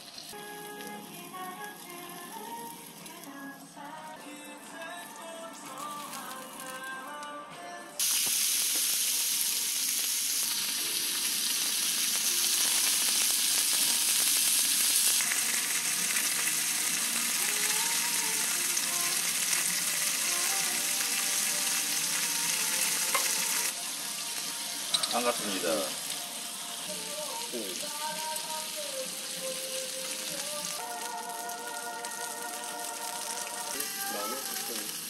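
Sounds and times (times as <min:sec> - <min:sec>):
pork sizzling on griddle: 0:00.0 - 0:03.5, 0:04.8 - 0:06.9, 0:08.0 - 0:35.0
background music: 0:00.0 - 0:35.0.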